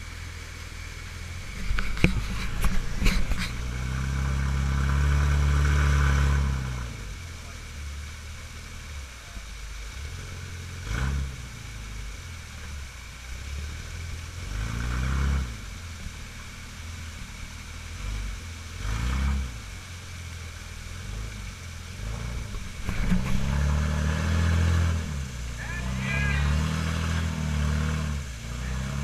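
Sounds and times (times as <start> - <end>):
engine revving: 0.0 - 7.8, 9.8 - 29.0
waterfall rushing: 0.0 - 29.0.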